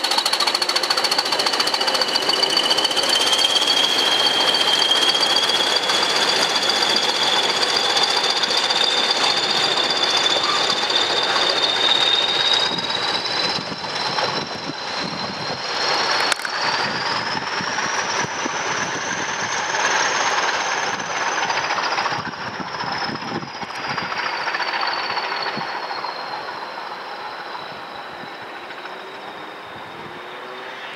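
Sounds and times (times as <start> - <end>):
diesel locomotive engines rumbling: 0.0 - 30.9
high turbocharger whistles: 0.0 - 30.9.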